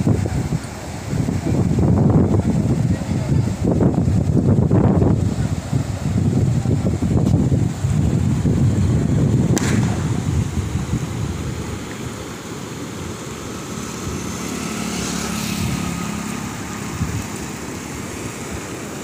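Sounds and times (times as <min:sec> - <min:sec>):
river water rushing: 0:00.0 - 0:19.0
wind buffeting microphone: 0:00.0 - 0:19.0.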